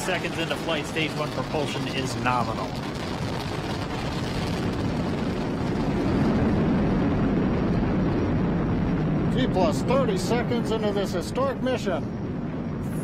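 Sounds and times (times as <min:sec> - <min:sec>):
rocket exhaust rumble: 0:00.0 - 0:13.0.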